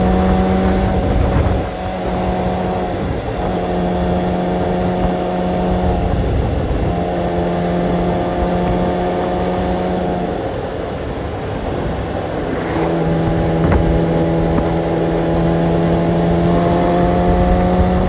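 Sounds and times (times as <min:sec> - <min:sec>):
motorcycle engine running: 0:00.0 - 0:18.0
wind rumble: 0:00.0 - 0:18.0.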